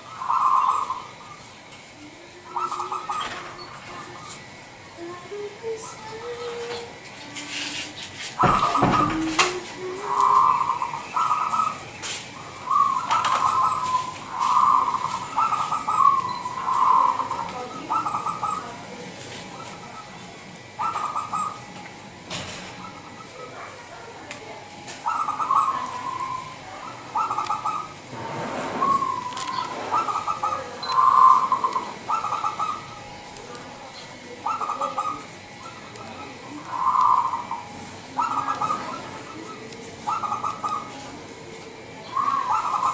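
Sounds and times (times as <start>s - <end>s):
dove cooing: 0.0s - 1.4s, 2.0s - 21.8s, 22.4s - 24.2s, 24.8s - 42.9s.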